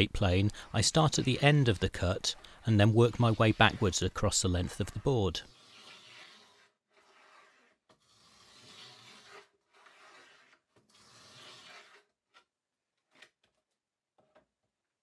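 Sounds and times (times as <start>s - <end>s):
plane shaving wood: 0.0s - 12.0s.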